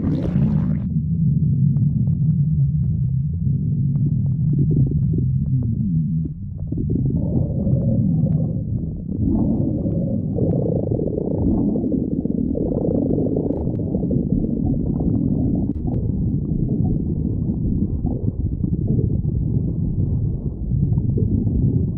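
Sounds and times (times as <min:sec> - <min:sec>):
stomach growling: 0:00.0 - 0:21.9.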